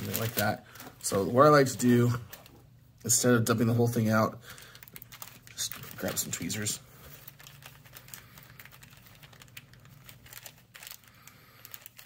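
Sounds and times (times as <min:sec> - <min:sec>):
plastic bag crinkling: 0:00.0 - 0:03.3, 0:03.9 - 0:12.0.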